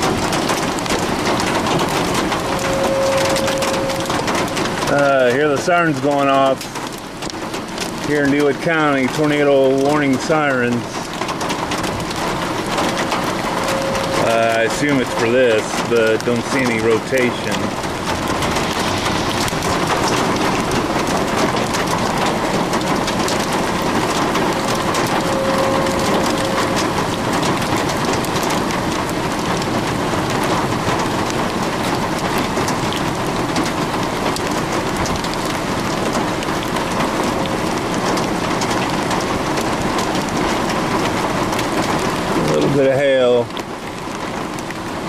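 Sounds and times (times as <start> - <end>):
hail impacts: 0.0 - 45.0
heavy rain on a lawn: 0.0 - 45.0.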